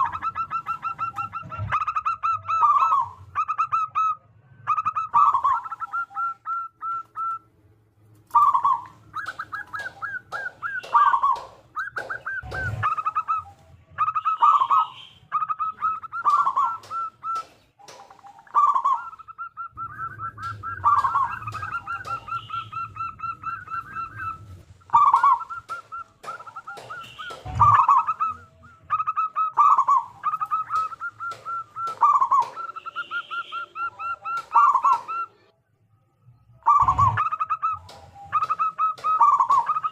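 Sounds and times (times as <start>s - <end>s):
dove cooing: 0.0s - 7.4s, 8.3s - 35.5s, 36.7s - 39.9s.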